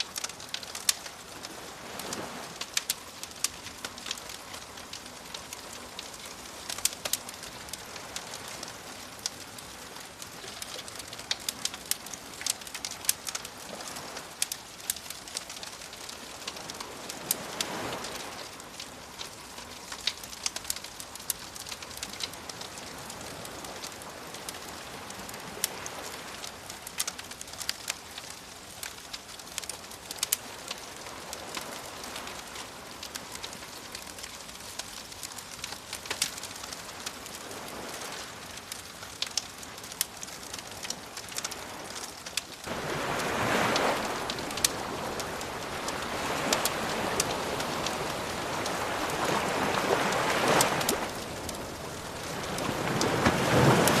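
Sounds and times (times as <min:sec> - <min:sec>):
ocean waves: 0:00.0 - 0:27.7, 0:29.4 - 0:54.0
wood fire crackling and popping: 0:00.0 - 0:54.0.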